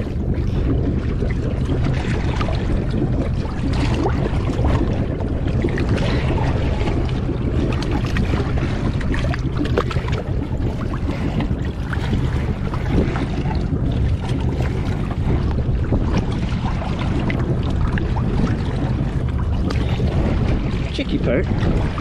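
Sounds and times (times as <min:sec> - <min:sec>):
choppy water splashing: 0:00.0 - 0:22.0
wind rumble on microphone: 0:00.0 - 0:22.0.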